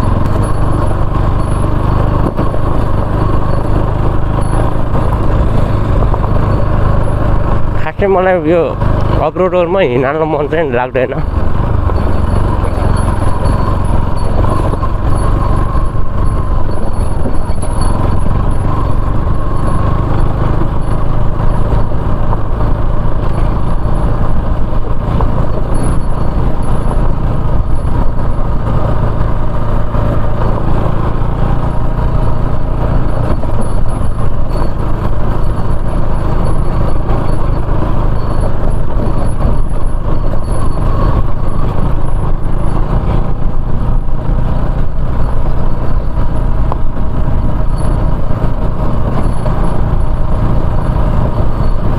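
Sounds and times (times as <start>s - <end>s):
motorcycle running: 0.0s - 51.9s.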